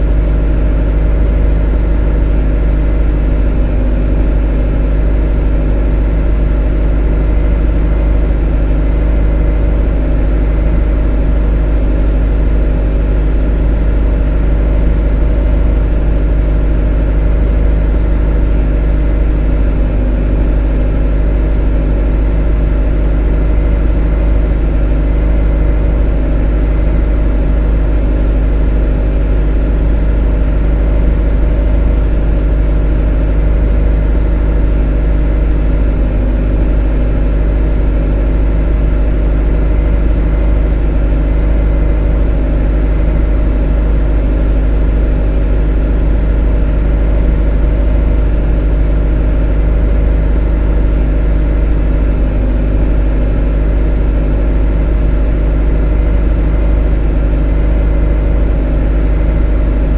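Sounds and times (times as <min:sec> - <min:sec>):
motor droning: 0:00.0 - 0:59.9.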